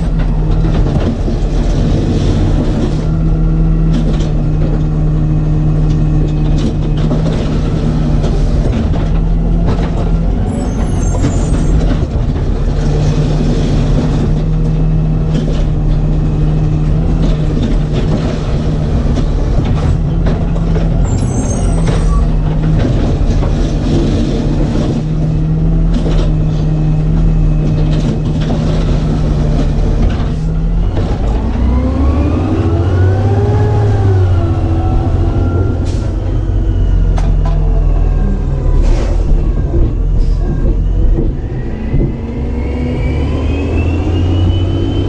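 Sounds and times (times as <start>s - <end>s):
knocks and clanks: 0.0s - 31.8s, 34.8s - 42.6s
garbage truck diesel engine: 0.0s - 45.0s.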